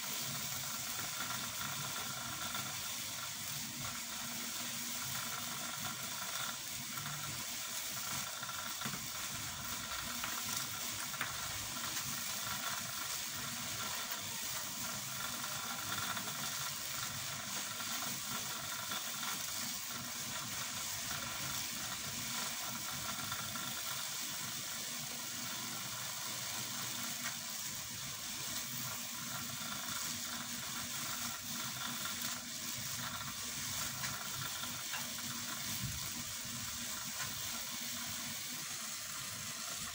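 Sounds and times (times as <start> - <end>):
steady hissing noise: 0.0 - 39.9.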